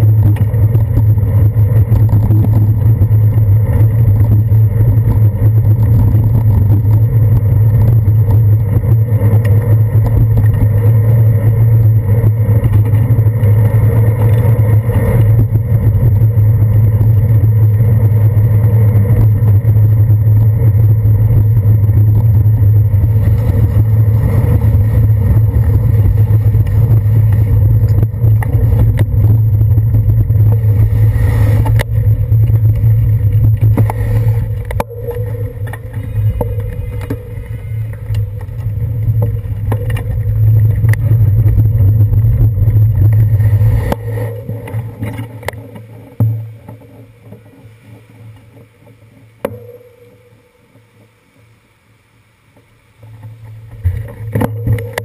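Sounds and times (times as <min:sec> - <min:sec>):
road vibration and wind rumble: 0:00.0 - 0:50.6, 0:52.7 - 0:55.0.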